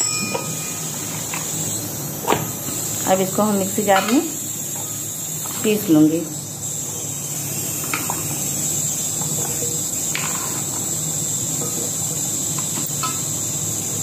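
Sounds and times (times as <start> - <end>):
steady high-pitched buzz: 0.0 - 14.0.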